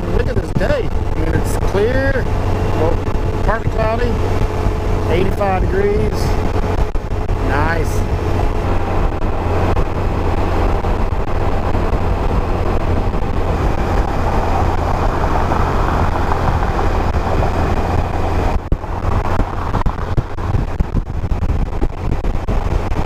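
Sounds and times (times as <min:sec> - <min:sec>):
motorcycle engine drone: 0:00.0 - 0:23.0
wind and road noise: 0:00.0 - 0:23.0.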